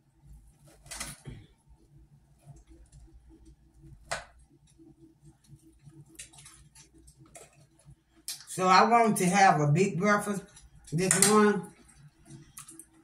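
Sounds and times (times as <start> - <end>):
fire crackling from a tv: 0.0 - 13.0.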